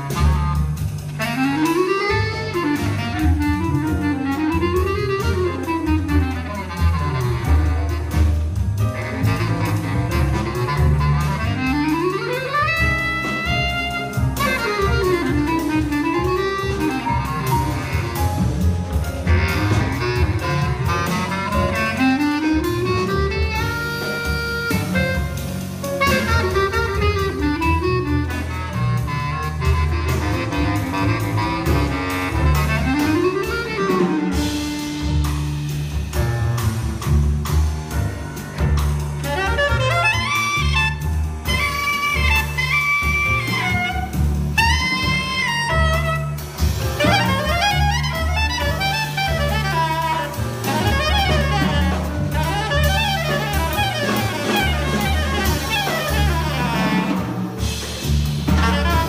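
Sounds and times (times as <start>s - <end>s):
bass clarinet solo: 0.0s - 59.0s
double bass: 0.0s - 59.0s
drums: 0.0s - 59.0s.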